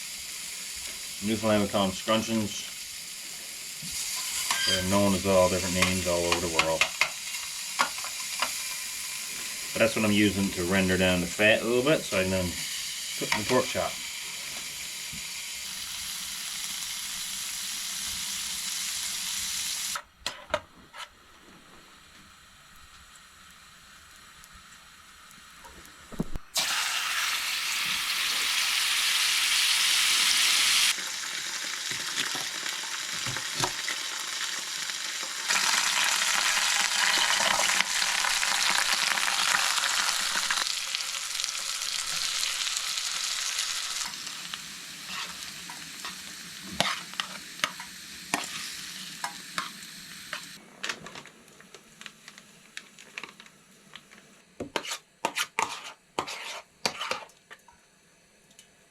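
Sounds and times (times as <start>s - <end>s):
pork sizzling in a frying pan: 0.0s - 20.1s, 21.9s - 50.6s.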